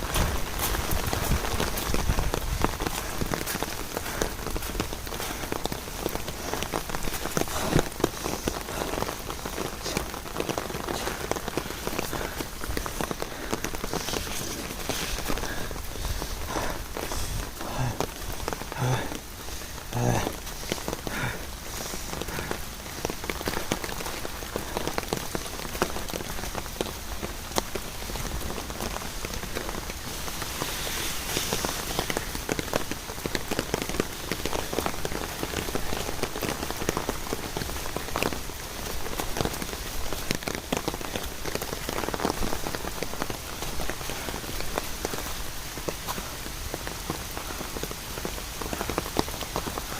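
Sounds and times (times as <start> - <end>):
rain hiss: 0.0 - 49.9
raindrops tapping on surfaces: 0.0 - 49.9.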